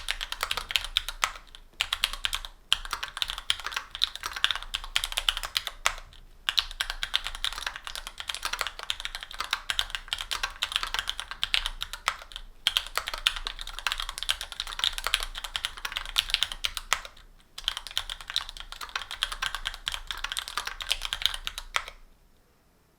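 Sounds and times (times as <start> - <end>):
mechanical keyboard typing: 0.0 - 22.0.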